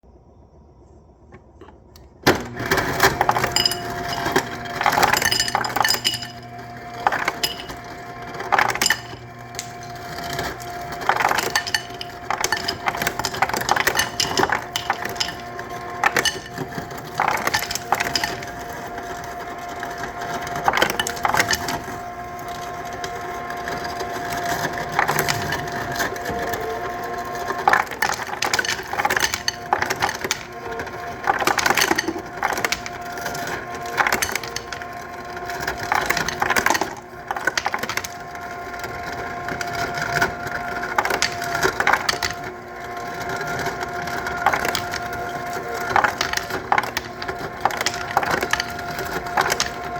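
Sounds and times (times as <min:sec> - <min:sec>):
ice dispenser motor hum: 0:01.6 - 0:49.9
ice cubes clattering: 0:02.5 - 0:49.9.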